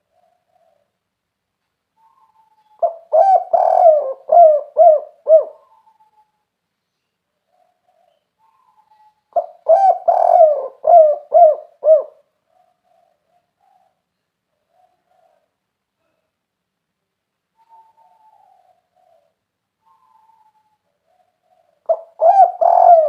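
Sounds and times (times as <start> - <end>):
dove cooing: 0.0 - 0.9, 2.0 - 6.2, 7.4 - 16.2, 17.6 - 23.0.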